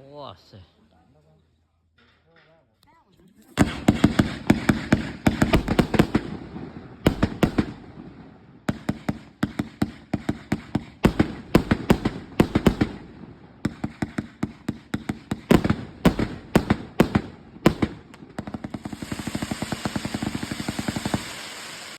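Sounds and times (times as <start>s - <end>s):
fireworks banging and crackling: 3.6s - 21.9s.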